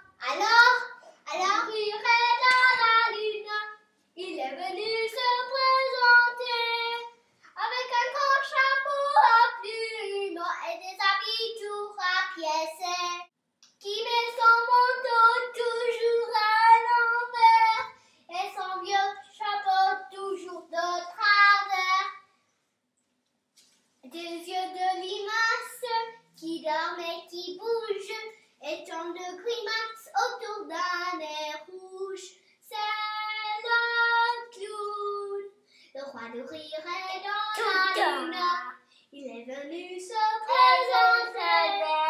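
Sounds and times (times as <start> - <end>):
girl singing: 0.0 - 22.3, 24.0 - 42.0.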